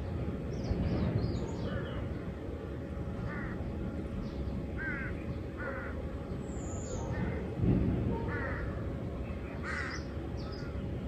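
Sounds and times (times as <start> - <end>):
birds calling: 0.0 - 11.0
low background rumble: 0.0 - 11.0.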